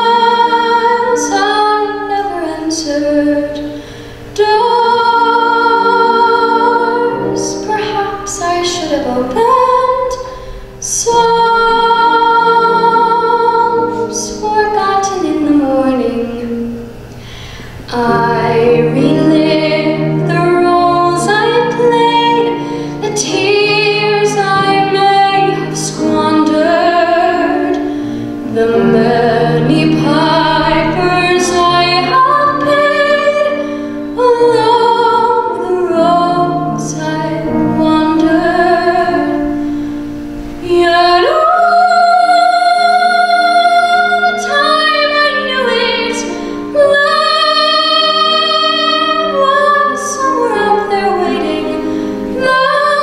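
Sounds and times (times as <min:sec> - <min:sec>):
woman singing: 0:00.0 - 0:16.9, 0:17.9 - 0:39.6, 0:40.6 - 0:53.0
musical accompaniment: 0:00.0 - 0:53.0.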